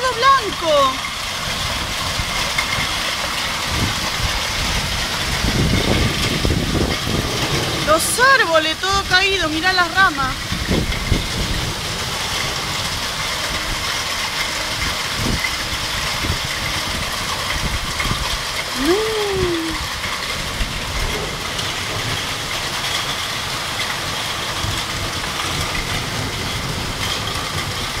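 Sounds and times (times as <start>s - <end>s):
heavy rain downpour: 0.0s - 28.0s
low rumble: 0.0s - 28.0s.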